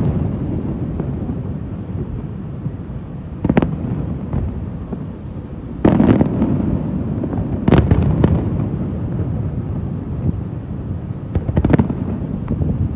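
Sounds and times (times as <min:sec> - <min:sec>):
continuous low rumble: 0:00.0 - 0:12.9
fireworks exploding: 0:00.0 - 0:12.9.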